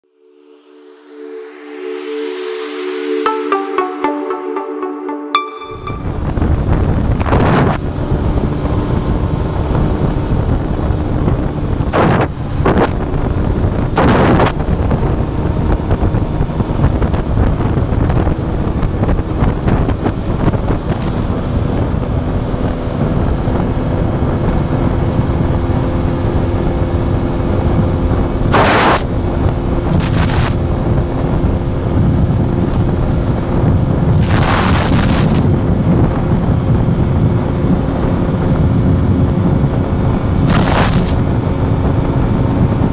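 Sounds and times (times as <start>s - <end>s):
wind rush on microphone: 6.1s - 42.9s.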